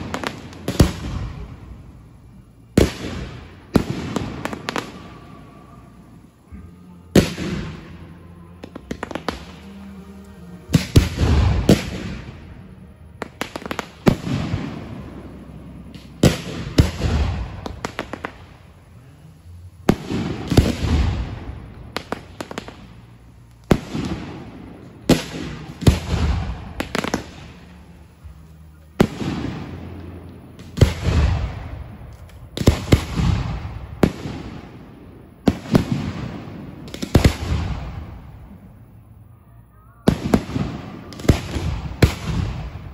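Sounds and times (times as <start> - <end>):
fireworks bangs with crackle: 0.0 - 6.3, 7.1 - 9.9, 10.6 - 19.0, 19.8 - 28.2, 28.9 - 38.8, 40.0 - 42.9.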